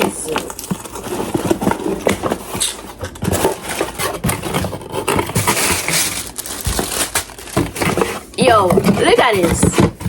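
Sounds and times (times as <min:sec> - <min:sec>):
cardboard and plastic crinkling: 0:00.0 - 0:10.0
packaging scraping and clicking: 0:00.0 - 0:10.0.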